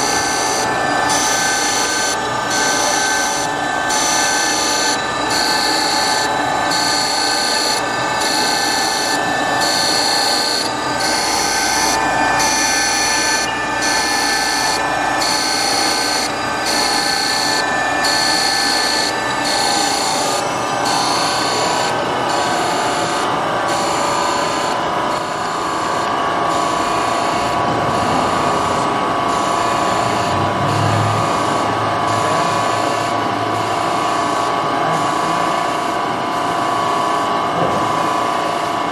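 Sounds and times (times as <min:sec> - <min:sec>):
surface grinder motor whine: 0:00.0 - 0:38.9.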